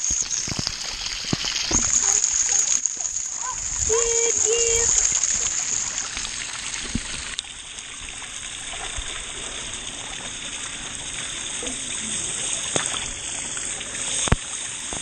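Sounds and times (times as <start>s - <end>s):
fountain water splashing on pool: 0.0s - 15.0s.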